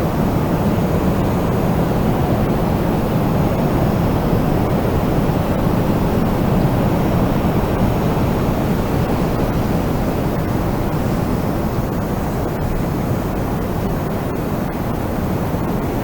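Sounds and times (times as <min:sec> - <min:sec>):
wind blowing steadily: 0:00.0 - 0:16.0.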